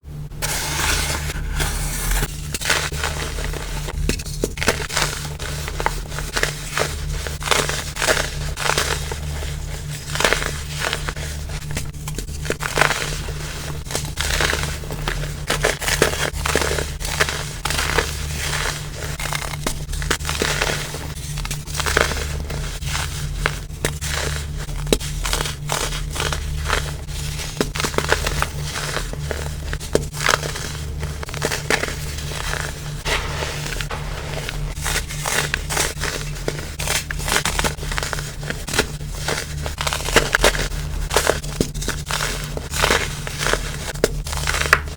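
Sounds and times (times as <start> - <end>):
steady low hum: 0.0 - 44.9
crumble being crushed: 0.4 - 44.9.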